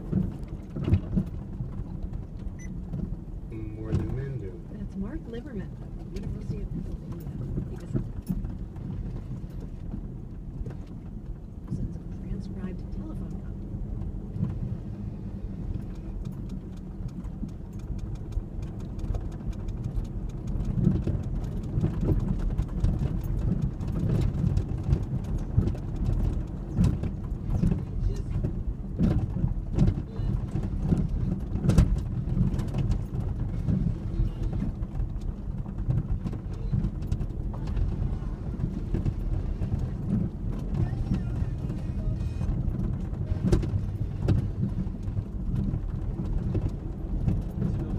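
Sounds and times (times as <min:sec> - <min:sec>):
knocks and rattles over rough ground: 0:00.0 - 0:47.9
pickup engine droning: 0:00.0 - 0:47.9.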